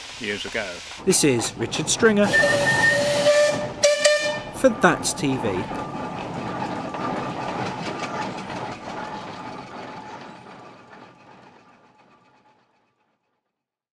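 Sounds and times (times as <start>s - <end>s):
steam engine exhaust chuffing: 0.0s - 12.0s
engine motion clanking: 0.9s - 13.4s.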